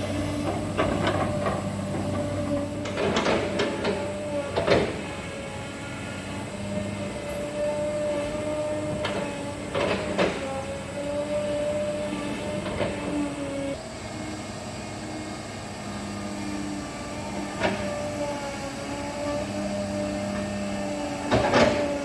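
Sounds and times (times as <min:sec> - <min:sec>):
excavator engine and hydraulic whine: 0:00.0 - 0:22.0.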